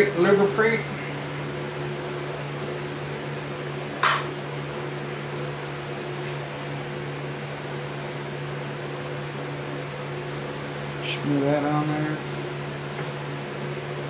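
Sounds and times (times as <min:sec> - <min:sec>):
box fan humming: 0:00.0 - 0:14.0.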